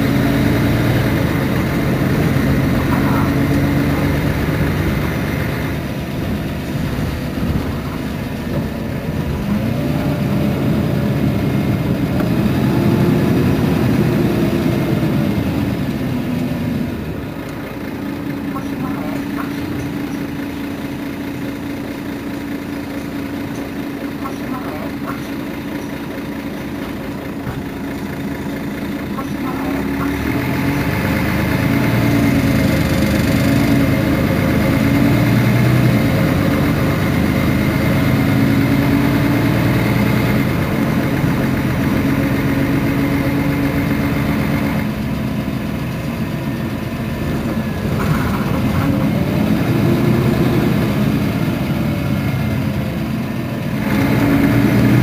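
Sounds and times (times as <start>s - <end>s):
bus engine: 0.0s - 55.0s.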